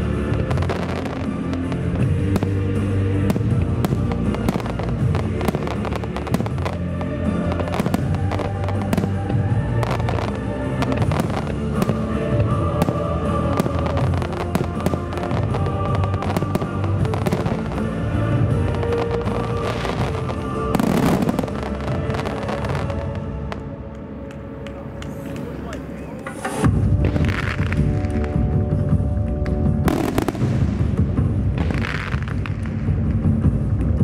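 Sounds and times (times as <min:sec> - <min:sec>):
fireworks bursting and crackling: 0:00.0 - 0:23.7, 0:25.0 - 0:34.0
loud music over speakers: 0:00.0 - 0:23.7, 0:25.2 - 0:34.0.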